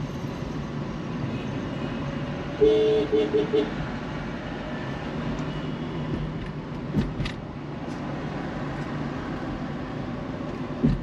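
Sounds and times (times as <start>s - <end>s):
car driving with road noise: 0.0s - 11.0s.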